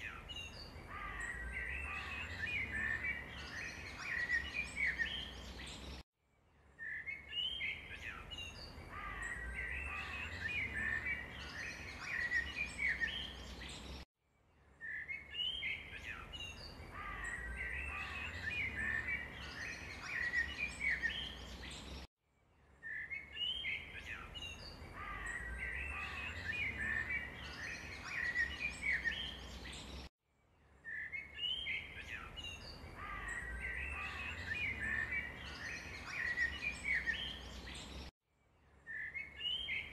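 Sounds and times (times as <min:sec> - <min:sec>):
small birds chirping: 0:00.0 - 0:06.0, 0:06.6 - 0:14.1, 0:14.7 - 0:38.1, 0:38.8 - 0:39.9.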